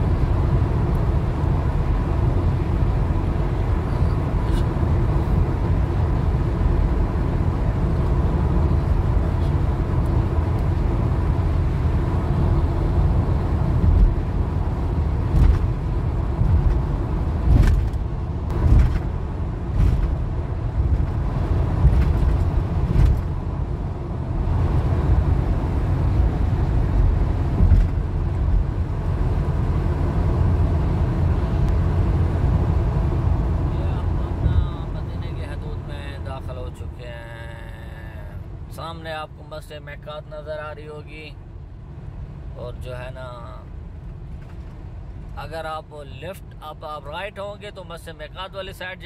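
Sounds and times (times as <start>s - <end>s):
car engine hum: 0.0s - 49.0s
tyres rumbling on road: 0.0s - 49.0s.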